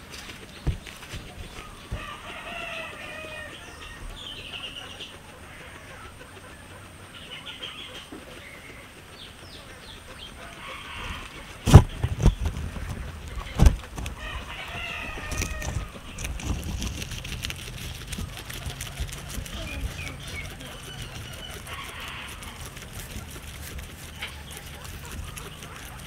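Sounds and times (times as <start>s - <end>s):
chirping animal calls: 0.0s - 26.0s
guinea pig chewing grass: 0.0s - 26.0s.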